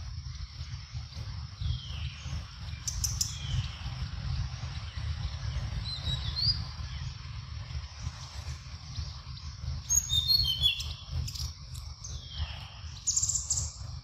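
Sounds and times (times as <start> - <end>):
faint high bird chirps: 0.0 - 14.0
steady low rumble: 0.0 - 14.0.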